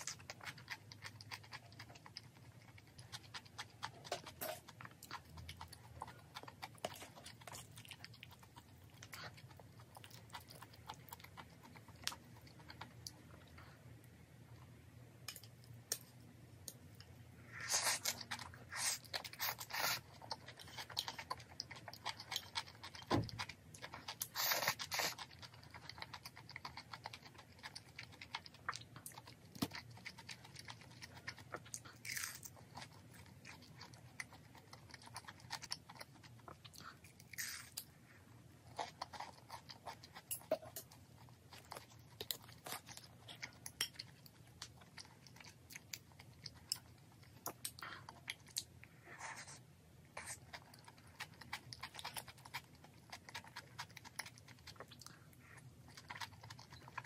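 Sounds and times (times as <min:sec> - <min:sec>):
wet chewing and crunchy bites: 0:00.0 - 0:13.6, 0:17.6 - 0:38.0, 0:38.6 - 0:57.0.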